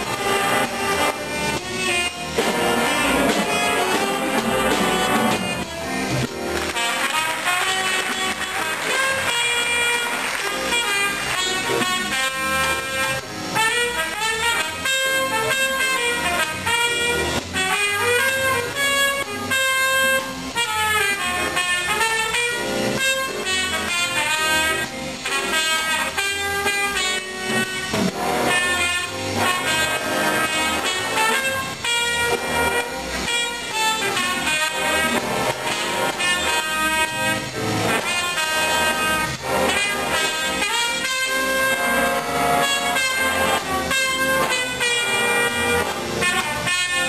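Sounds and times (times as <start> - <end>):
jazz big band playing swing: 0.0 - 47.0
trumpet solo: 0.0 - 47.0.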